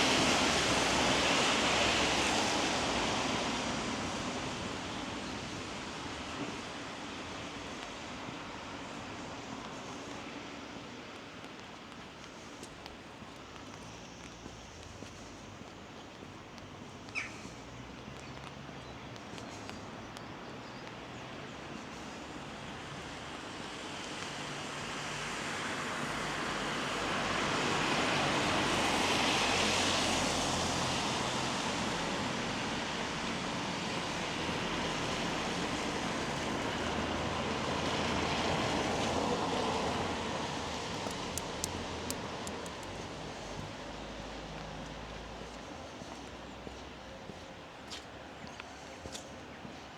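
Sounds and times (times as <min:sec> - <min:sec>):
tyres hissing on wet road: 0:00.0 - 0:20.0, 0:20.9 - 0:47.0.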